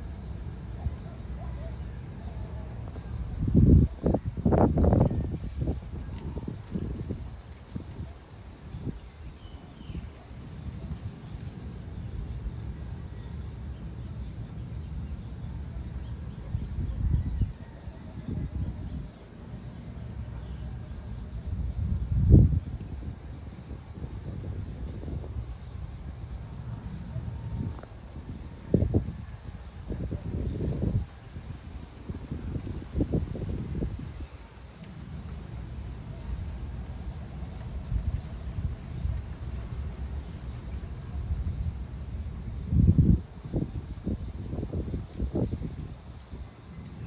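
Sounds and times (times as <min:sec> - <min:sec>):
high-pitched insect chorus: 0:00.0 - 0:47.0
wind rumbling on microphone: 0:02.5 - 0:47.0.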